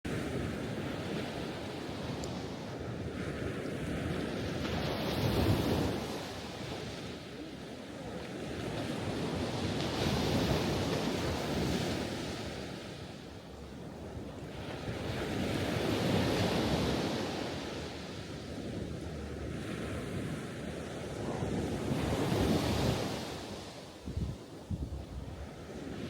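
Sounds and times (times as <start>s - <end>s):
ocean waves washing in: 0.2s - 26.0s.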